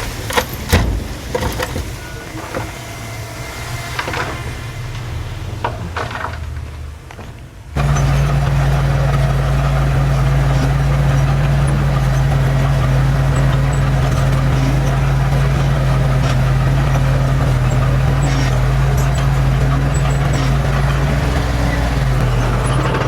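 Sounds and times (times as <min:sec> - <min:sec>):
diesel engine running steadily: 0:00.0 - 0:23.0.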